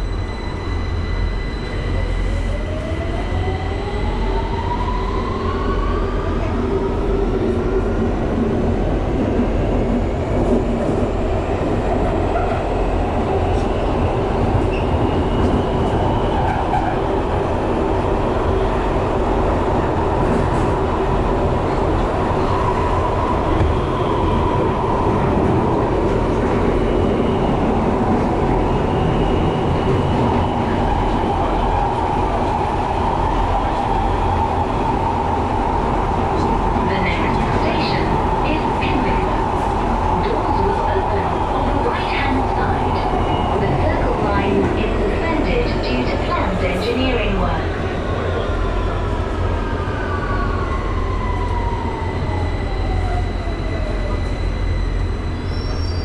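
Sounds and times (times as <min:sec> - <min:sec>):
train rumble and wheel-on-rail noise: 0:00.0 - 0:56.0.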